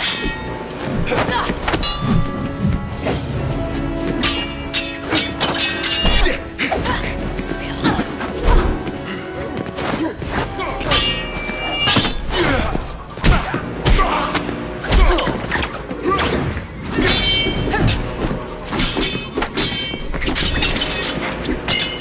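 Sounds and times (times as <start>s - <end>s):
film score music: 0.0s - 22.0s.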